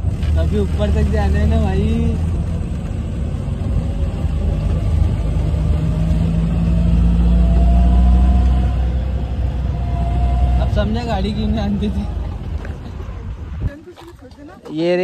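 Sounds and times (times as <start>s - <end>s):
jeep engine rumbling: 0.0s - 15.0s.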